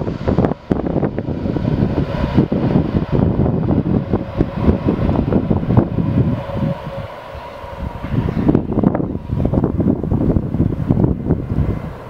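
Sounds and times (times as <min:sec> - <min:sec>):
faint jet engine whine: 0:00.0 - 0:12.0
jet engines droning: 0:00.0 - 0:12.0
wind buffeting microphone: 0:00.0 - 0:12.0.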